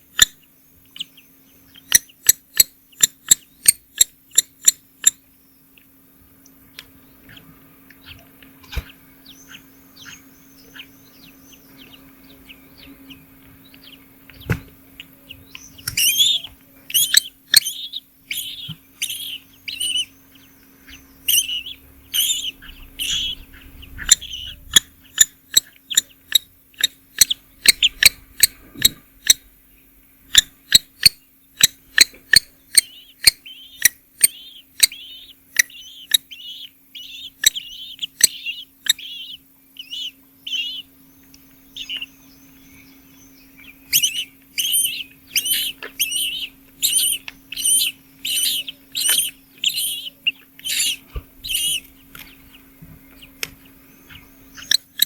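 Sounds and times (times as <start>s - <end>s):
nestlings chirping: 0.0s - 55.0s.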